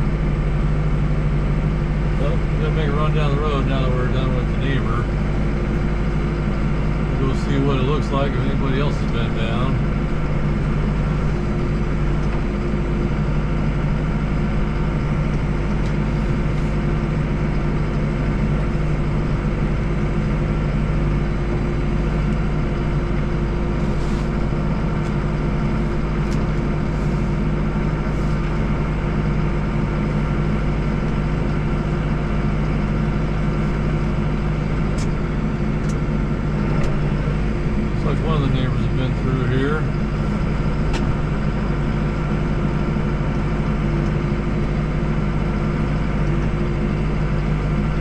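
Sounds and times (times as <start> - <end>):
tractor diesel engine humming: 0.0 - 48.0.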